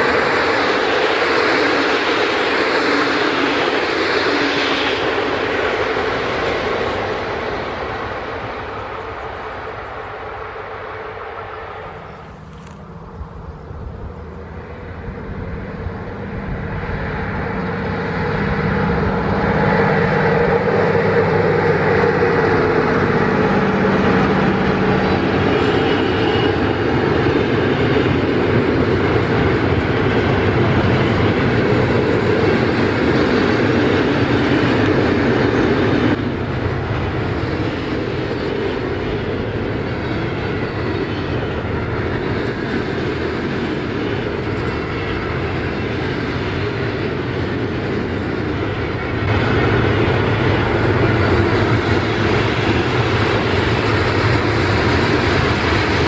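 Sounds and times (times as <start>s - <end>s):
electric locomotive passing: 0.0s - 56.0s
train wagons rolling on rails: 0.0s - 56.0s.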